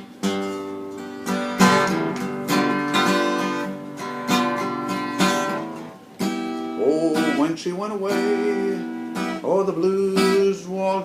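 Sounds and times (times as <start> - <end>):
acoustic guitar strumming blues: 0.0 - 11.0.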